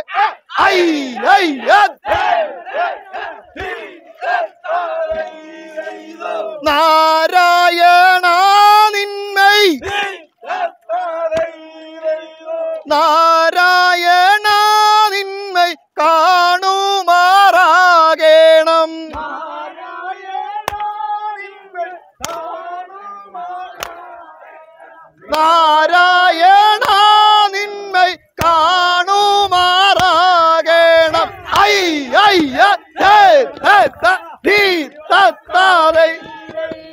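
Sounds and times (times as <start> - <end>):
voices singing in unison: 0.0 - 36.9.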